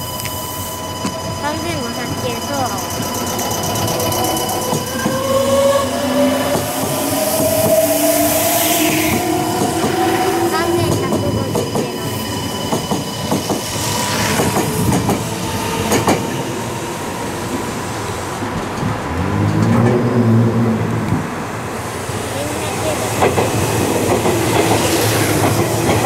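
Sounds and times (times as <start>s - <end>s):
low train hum: 0.0s - 26.0s.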